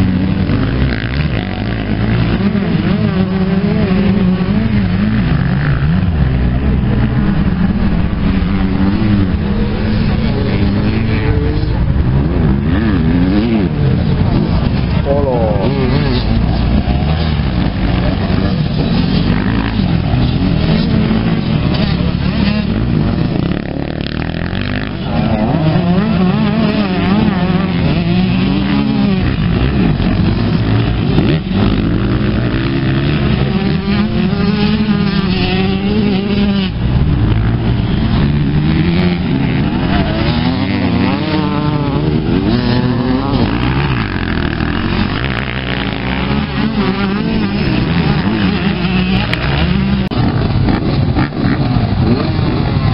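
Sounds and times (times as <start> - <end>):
motocross bikes revving: 0.0 - 52.9.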